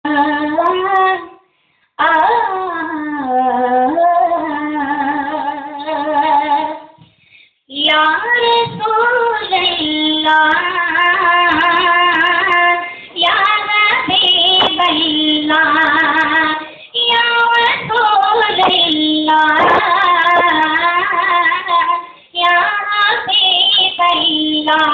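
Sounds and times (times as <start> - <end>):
boy singing into a microphone: 0.0 - 1.4, 2.0 - 7.1, 7.7 - 24.9.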